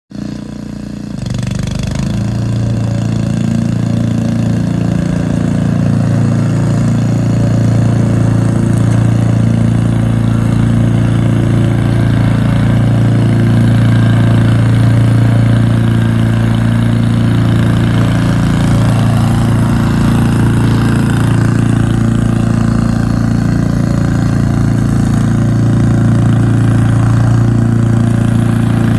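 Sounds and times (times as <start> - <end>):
lawn mower engine running: 0.1 - 28.9.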